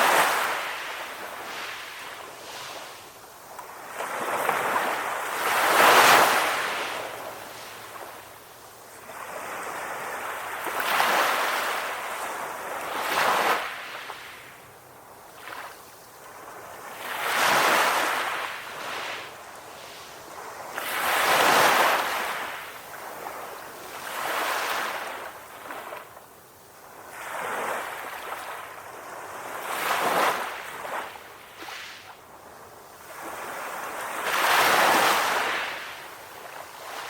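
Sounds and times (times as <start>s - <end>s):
ocean waves breaking on shore: 0.0s - 37.0s.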